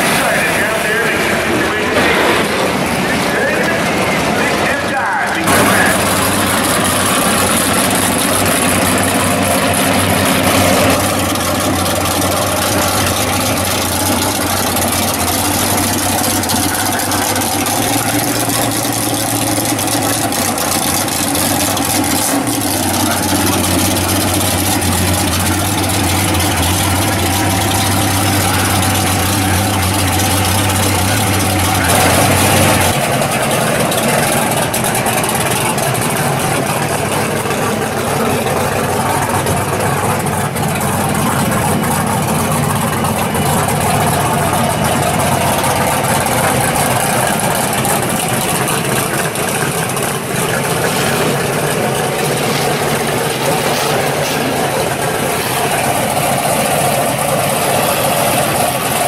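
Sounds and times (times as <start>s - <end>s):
race car engines idling: 0.0s - 59.0s.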